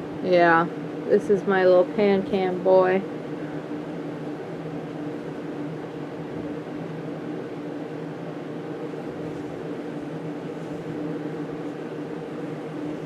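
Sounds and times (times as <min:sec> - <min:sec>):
fan motor hum: 0:00.0 - 0:13.0.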